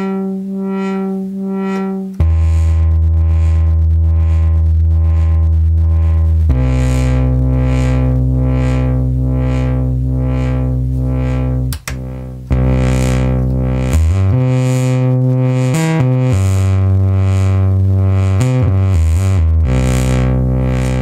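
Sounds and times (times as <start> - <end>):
buzzy synth bass note: 0.0 - 21.0.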